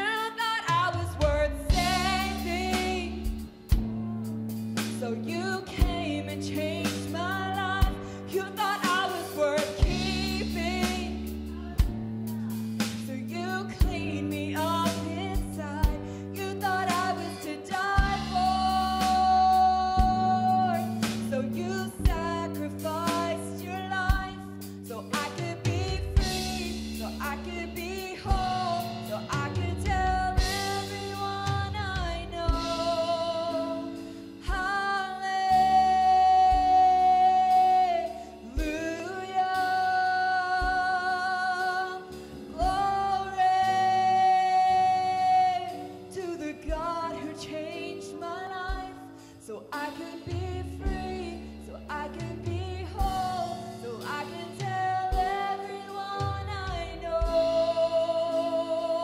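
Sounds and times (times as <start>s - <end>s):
woman singing: 0.0s - 4.2s, 4.8s - 59.0s
bass guitar: 0.0s - 49.2s, 49.8s - 59.0s
drums: 0.0s - 59.0s
piano: 0.0s - 59.0s.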